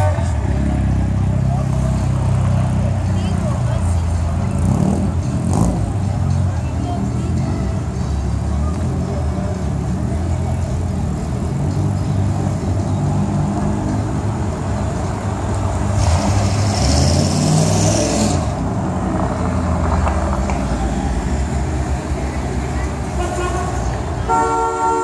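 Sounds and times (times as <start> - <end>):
cars driving slowly past: 0.0 - 25.0.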